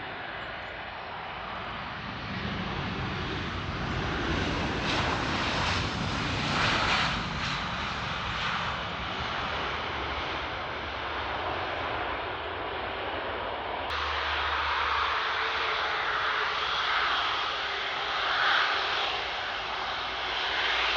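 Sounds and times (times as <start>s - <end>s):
jet engine rushing: 0.0s - 20.9s.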